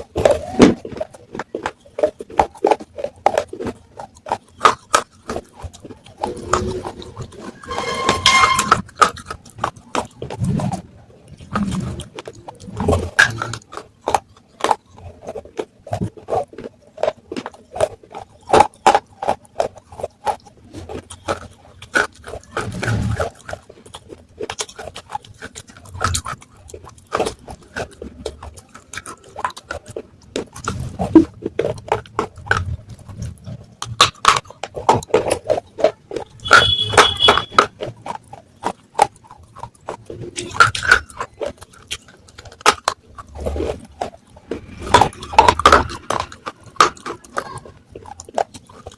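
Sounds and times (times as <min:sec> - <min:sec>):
clay pieces crunching in mouth: 0:00.0 - 0:48.9.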